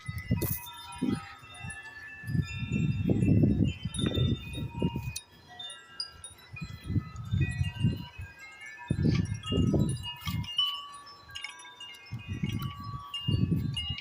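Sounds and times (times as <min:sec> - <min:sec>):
metal wind chimes ringing: 0:00.0 - 0:14.0
wind rumbling on microphone: 0:00.0 - 0:14.0.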